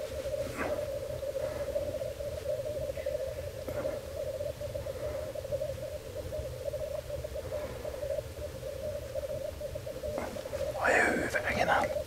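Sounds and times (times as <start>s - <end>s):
grouse bubbling chorus: 0.0s - 12.0s.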